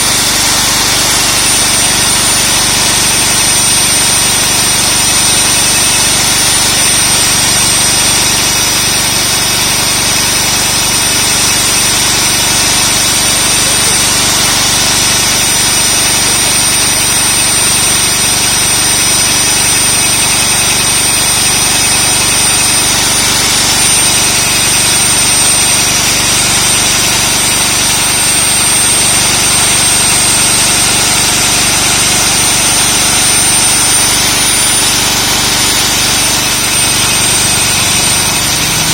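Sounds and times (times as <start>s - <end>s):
core drill motor whirring: 0.0s - 38.9s.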